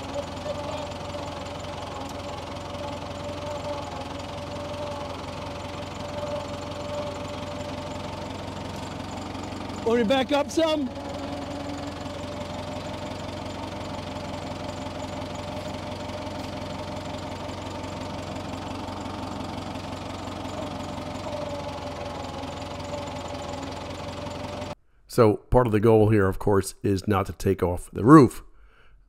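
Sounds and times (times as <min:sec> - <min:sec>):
tractor engine running: 0:00.0 - 0:24.8.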